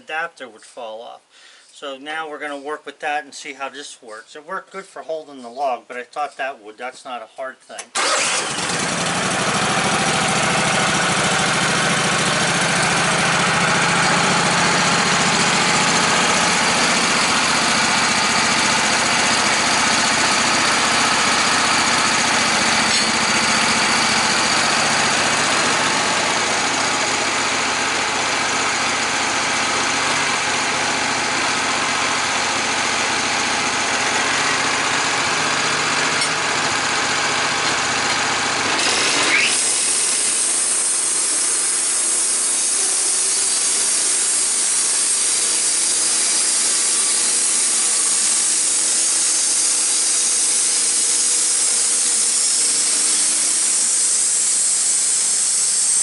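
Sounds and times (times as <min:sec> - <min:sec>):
engine running: 0:08.0 - 0:56.0.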